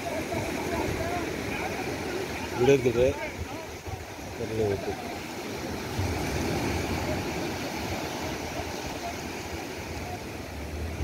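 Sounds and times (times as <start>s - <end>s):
surf breaking on sandy beach: 0.0s - 11.0s.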